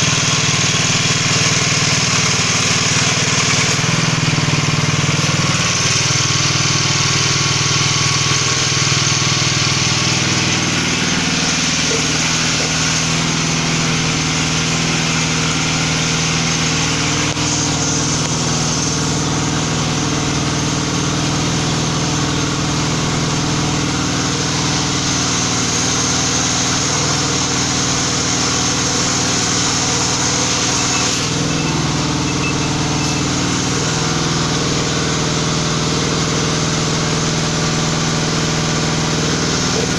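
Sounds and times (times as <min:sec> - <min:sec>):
hydraulic pump motor running: 0:00.0 - 0:39.9.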